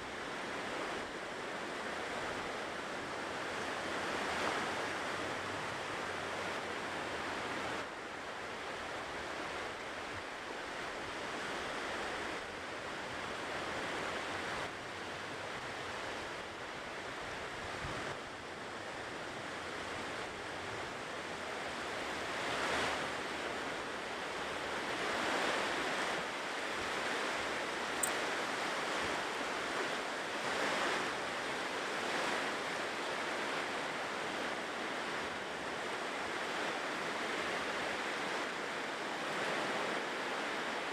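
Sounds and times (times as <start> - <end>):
ocean surf washing onto shore: 0.0 - 40.9.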